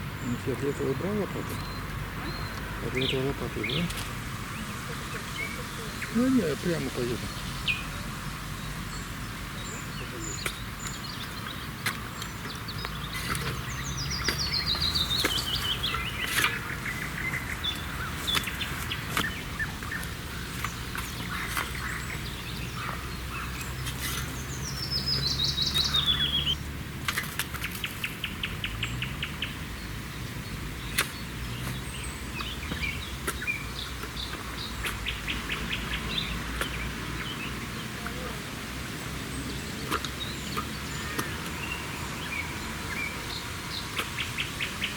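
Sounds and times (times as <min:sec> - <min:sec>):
low engine hum: 0:00.0 - 0:44.9
songbirds singing: 0:00.0 - 0:44.9.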